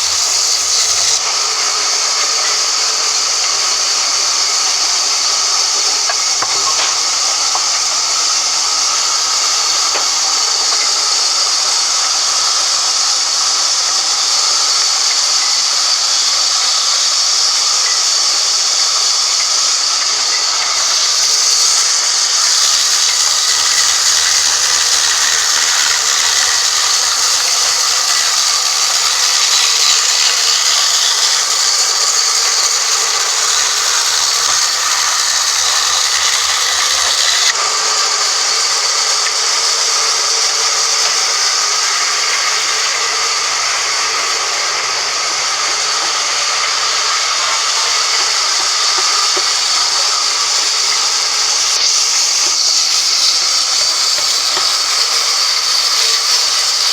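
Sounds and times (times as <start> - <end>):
saw blade cutting wood: 0.0 - 56.9.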